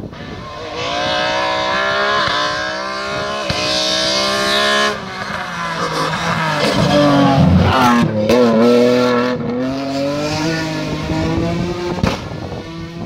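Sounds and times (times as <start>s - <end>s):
race car engine accelerating: 0.1s - 13.0s.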